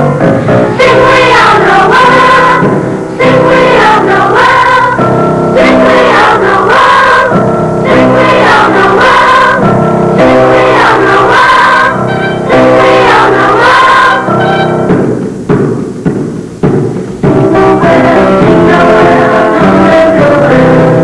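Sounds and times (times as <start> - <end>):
choir singing a carol: 0.0 - 14.8, 17.5 - 21.0.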